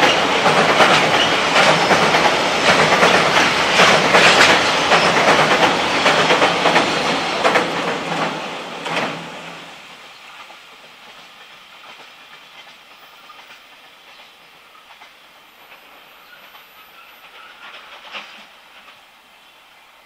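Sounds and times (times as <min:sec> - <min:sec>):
train wheel clatter: 0:00.0 - 0:19.2
rail hiss: 0:00.0 - 0:20.0.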